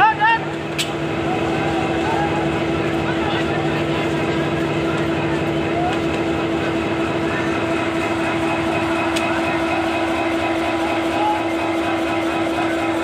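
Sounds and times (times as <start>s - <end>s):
train carriages rolling on rails: 0.0s - 13.0s.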